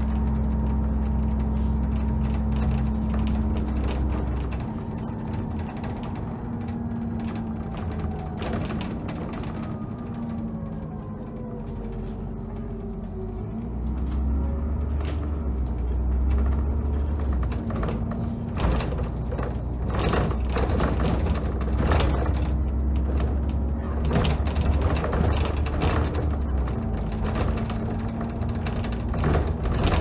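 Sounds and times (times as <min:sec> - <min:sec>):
loose body fittings rattling: 0:00.0 - 0:10.3, 0:11.8 - 0:30.0
bus drive-line whine: 0:00.0 - 0:30.0
diesel engine drone: 0:00.0 - 0:30.0.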